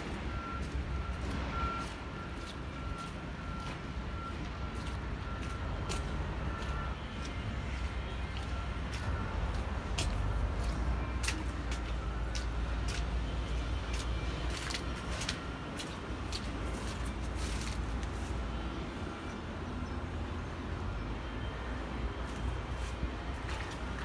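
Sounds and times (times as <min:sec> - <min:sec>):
truck engine rumbling: 0:00.0 - 0:24.0.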